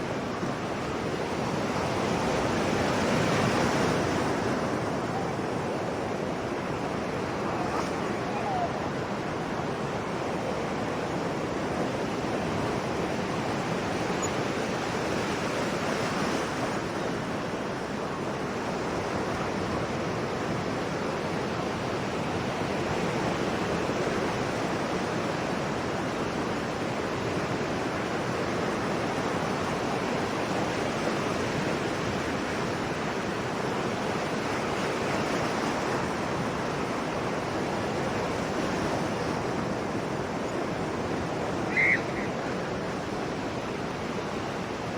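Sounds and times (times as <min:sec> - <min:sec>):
sea waves washing on shore: 0:00.0 - 0:44.9.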